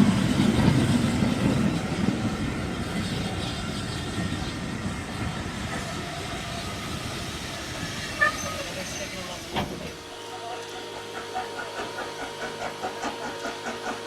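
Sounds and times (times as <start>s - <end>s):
steam train running on rails: 0.0s - 14.0s.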